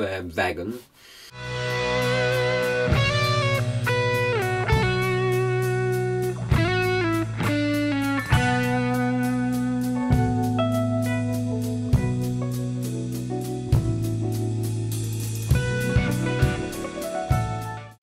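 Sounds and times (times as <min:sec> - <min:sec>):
bluesy electric guitar melody: 0:01.4 - 0:14.8, 0:15.5 - 0:18.0.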